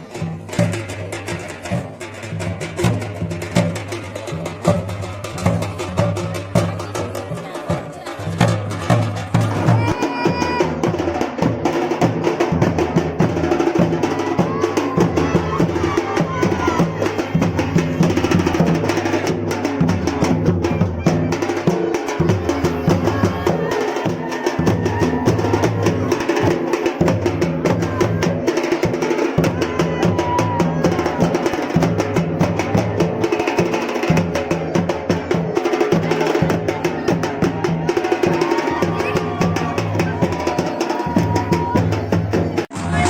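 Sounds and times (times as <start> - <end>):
drums rolling rhythm: 0.0 - 43.0.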